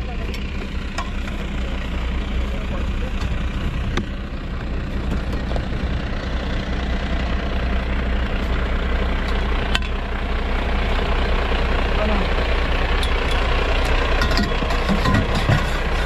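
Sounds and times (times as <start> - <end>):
fire engine idling: 0.0 - 16.0.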